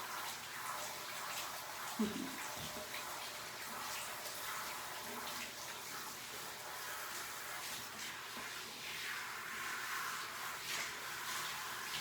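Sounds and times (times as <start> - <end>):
water spraying into tub: 0.0 - 12.0.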